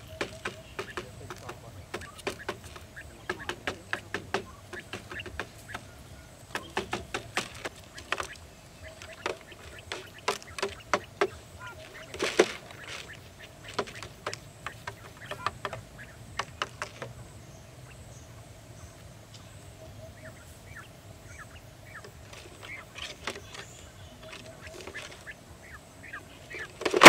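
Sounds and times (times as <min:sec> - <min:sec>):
birds tapping on plastic: 0:00.0 - 0:17.4, 0:21.4 - 0:27.0
quail calls: 0:00.0 - 0:18.5, 0:19.5 - 0:27.0.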